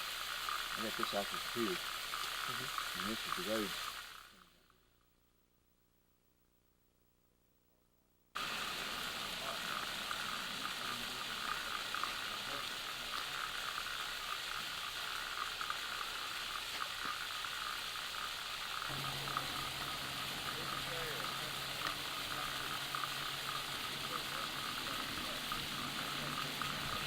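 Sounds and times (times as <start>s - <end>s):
dense hiss with crackling: 0.0s - 5.5s, 8.4s - 27.0s.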